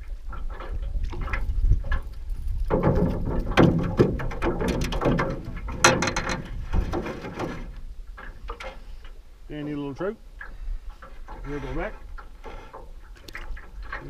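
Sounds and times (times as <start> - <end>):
wind rumble on microphone: 0.0 - 14.0
knocks and rattles in metal boat: 0.2 - 14.0.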